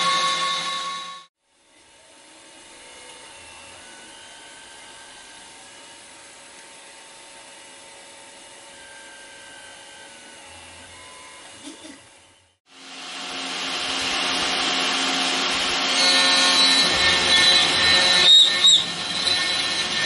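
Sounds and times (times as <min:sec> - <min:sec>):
stepper motor whine: 0:00.0 - 0:20.0.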